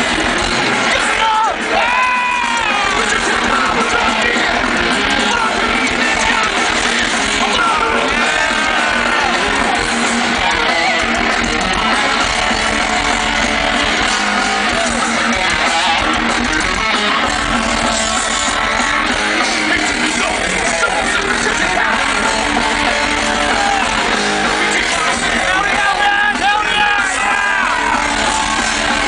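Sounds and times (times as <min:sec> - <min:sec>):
guitar-driven rock music: 0:00.0 - 0:29.0.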